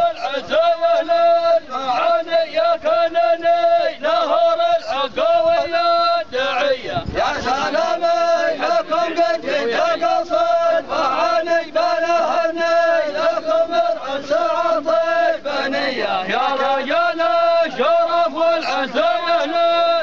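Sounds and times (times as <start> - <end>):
men chanting in unison: 0.0 - 20.0.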